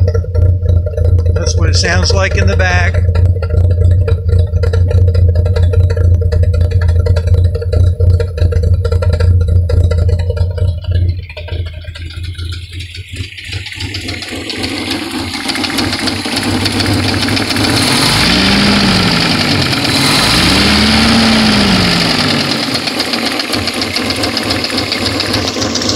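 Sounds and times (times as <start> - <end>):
car engine idling: 0.0 - 25.9
engine revving: 0.0 - 25.9.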